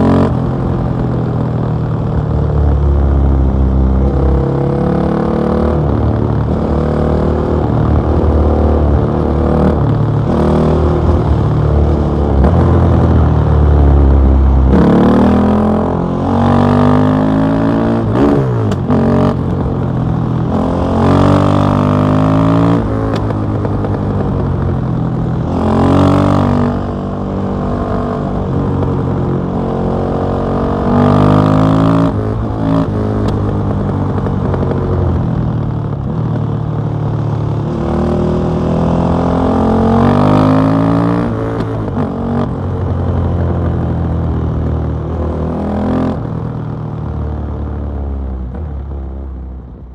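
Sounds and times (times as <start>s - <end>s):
motorcycle engine revving: 0.0s - 46.8s.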